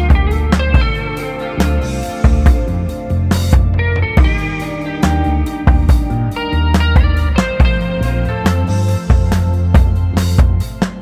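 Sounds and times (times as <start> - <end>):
soft lounge music: 0.0 - 11.0.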